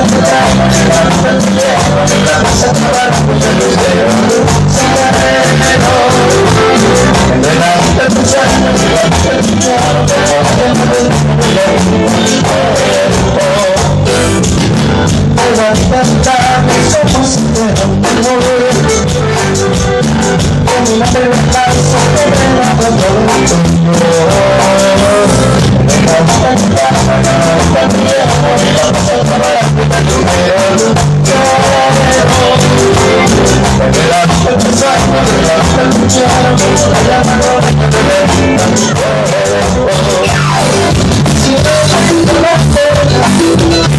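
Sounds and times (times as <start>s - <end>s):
person singing lead: 0.0s - 14.6s, 15.3s - 43.9s
latin tropical band music: 0.0s - 43.9s.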